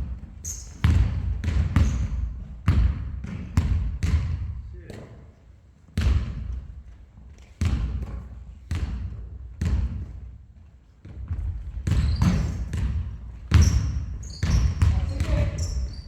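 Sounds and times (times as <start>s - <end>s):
basketball bouncing on hard court: 0.0s - 4.6s, 5.9s - 10.3s, 11.0s - 16.0s.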